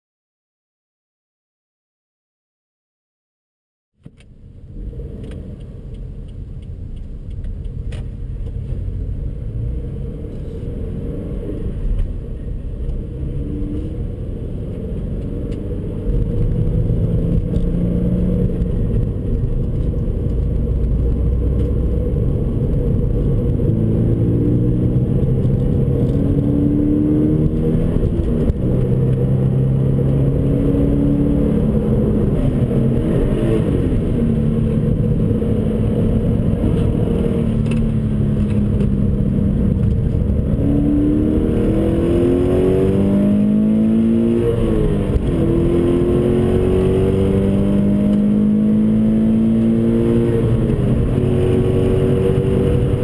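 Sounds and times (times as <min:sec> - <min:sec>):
car engine accelerating: 0:04.0 - 0:53.0.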